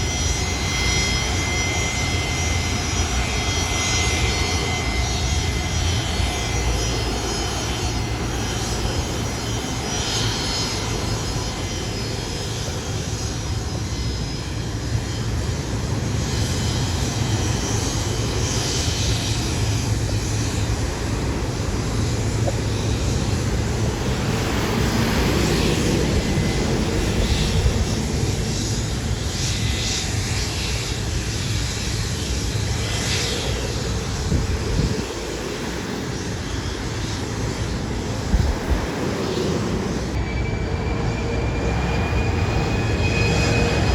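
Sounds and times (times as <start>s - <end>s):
airliner engines rumbling: 0.0s - 43.9s.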